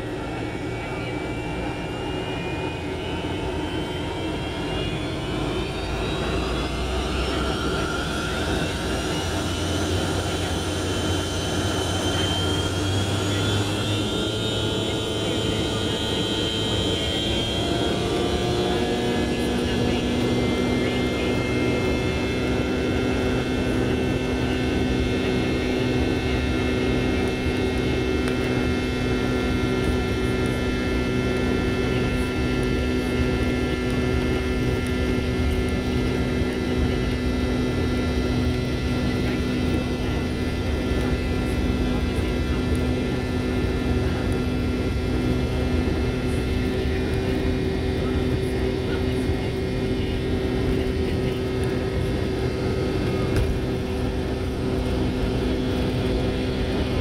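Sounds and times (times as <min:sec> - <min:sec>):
jet engines from cabin: 0:00.0 - 0:57.0.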